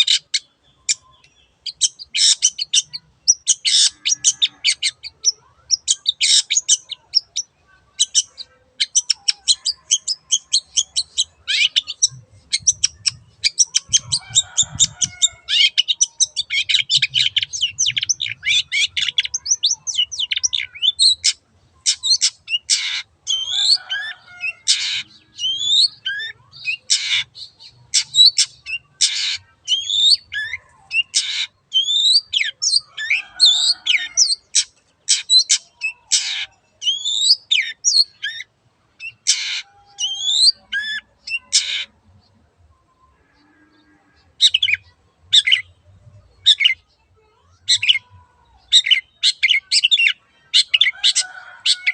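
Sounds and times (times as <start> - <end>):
harsh bird calls and whistles: 0.0 - 43.6, 47.6 - 51.9.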